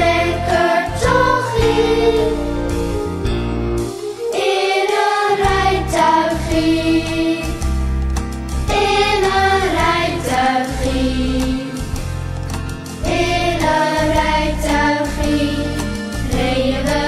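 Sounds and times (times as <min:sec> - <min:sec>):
children's choir singing: 0:00.0 - 0:03.0, 0:04.0 - 0:07.7, 0:08.7 - 0:11.9, 0:13.0 - 0:17.0
instrumental accompaniment: 0:00.0 - 0:17.0.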